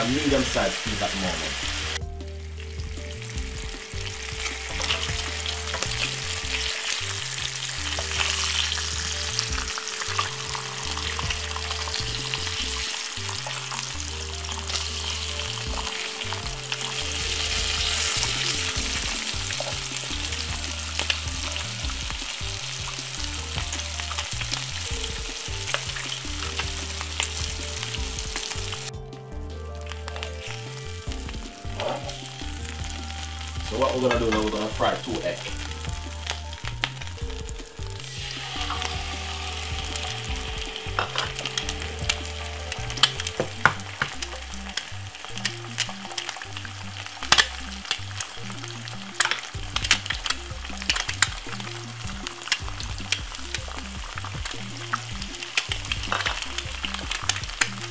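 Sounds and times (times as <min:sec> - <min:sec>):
bacon sizzling in a frying pan: 0:00.0 - 0:28.9, 0:30.1 - 0:57.9.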